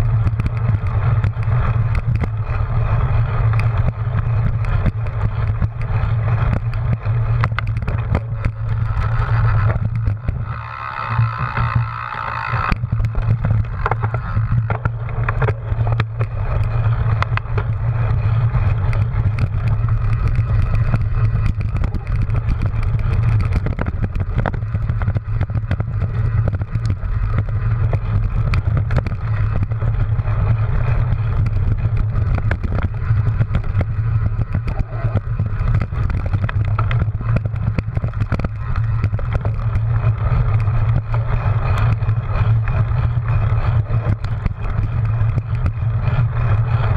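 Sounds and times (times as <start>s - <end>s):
bike knocks and rattles: 0.0s - 46.9s
bike road noise: 0.0s - 46.9s
wind rumble: 0.0s - 46.9s.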